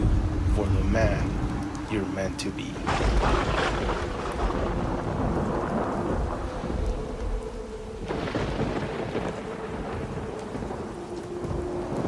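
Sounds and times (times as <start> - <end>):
low rumbling thunder: 0.0 - 1.9, 2.7 - 12.0
rain falling steadily: 0.0 - 12.0.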